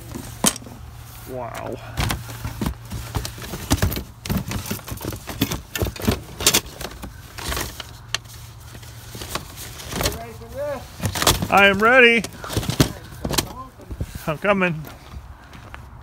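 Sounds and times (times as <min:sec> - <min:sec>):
items shuffled in cardboard box: 0:00.0 - 0:14.5.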